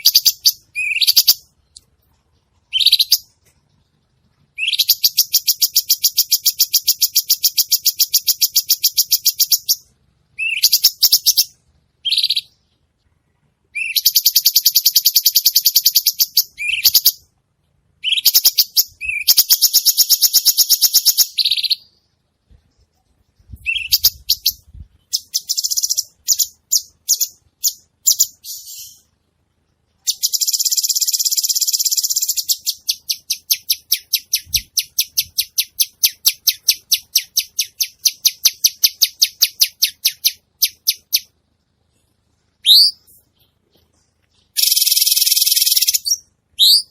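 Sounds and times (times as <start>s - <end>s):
songbird singing fast trills: 0.0s - 1.8s, 2.6s - 3.3s, 4.5s - 12.7s, 13.7s - 17.2s, 18.0s - 22.1s, 23.4s - 29.1s, 30.0s - 41.3s, 42.6s - 43.5s, 44.4s - 46.9s.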